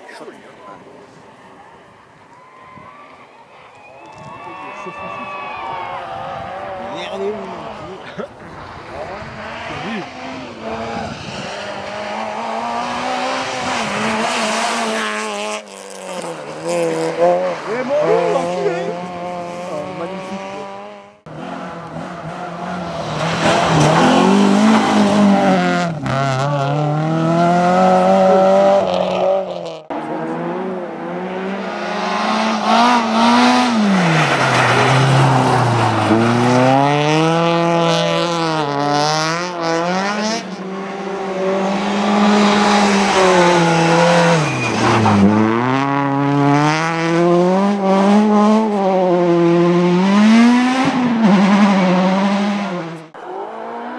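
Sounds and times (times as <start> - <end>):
rally car engines revving: 4.8 - 53.9.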